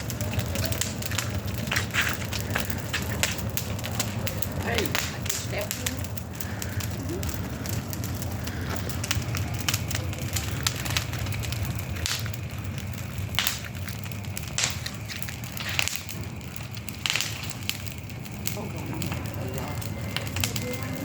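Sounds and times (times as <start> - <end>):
bonfire crackling: 0.0 - 21.0
low steady rumble: 0.0 - 21.0
sharp fire pops: 0.0 - 21.0.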